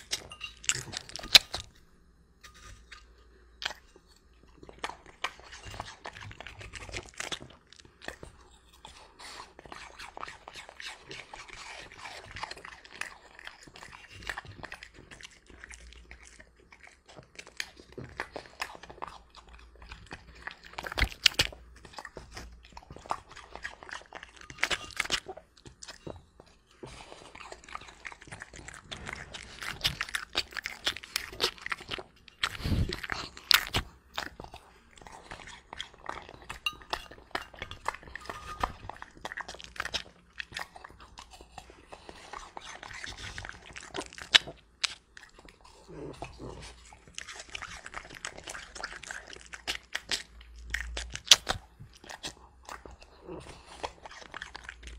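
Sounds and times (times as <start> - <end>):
dog crunching apple: 0.0 - 1.9, 4.5 - 54.9.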